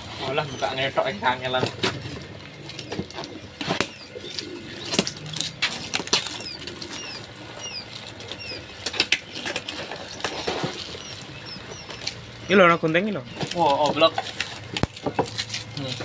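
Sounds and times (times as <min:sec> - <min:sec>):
quail chicks peeping: 0:00.1 - 0:16.0.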